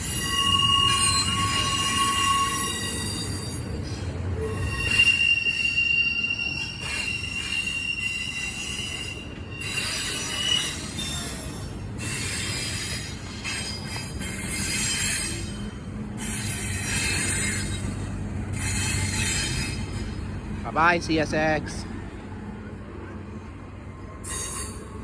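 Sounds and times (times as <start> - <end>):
train wheels squealing: 0.0 - 20.4, 24.2 - 25.0
freight train rumbling: 0.0 - 25.0.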